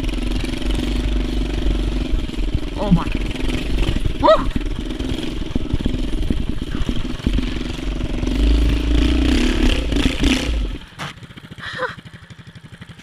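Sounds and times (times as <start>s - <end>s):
mini bike engine revving and idling: 0.0s - 13.0s.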